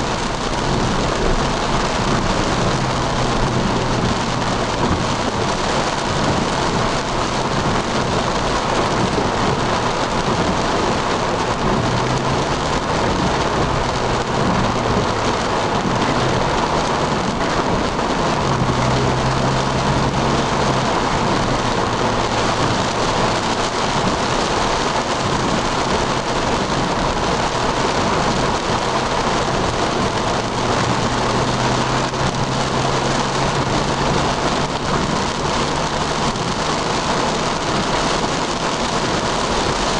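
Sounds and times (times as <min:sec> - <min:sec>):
heavy rain on car roof: 0:00.0 - 0:39.9
low engine hum: 0:00.0 - 0:39.9.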